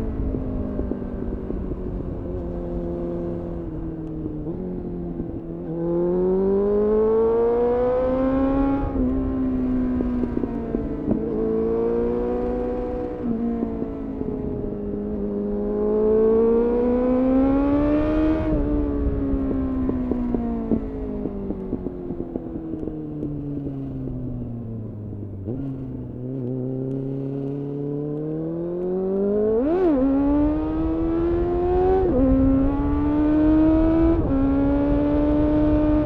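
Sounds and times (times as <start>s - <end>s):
wind rumble: 0.0s - 27.7s, 29.3s - 36.0s
motorcycle engine revving: 0.0s - 36.0s.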